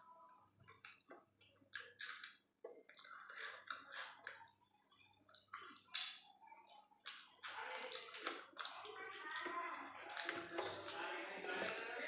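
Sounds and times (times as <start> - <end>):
wet chewing and lip smacking: 0.6 - 11.8.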